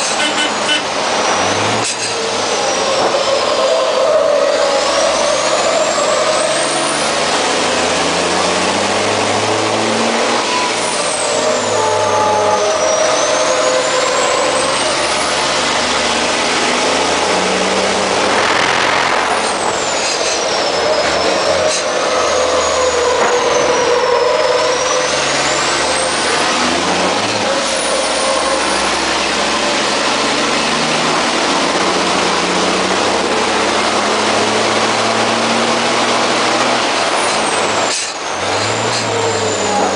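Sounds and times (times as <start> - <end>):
road and wind noise: 0.0 - 39.9
truck diesel engine running hard: 0.0 - 39.9.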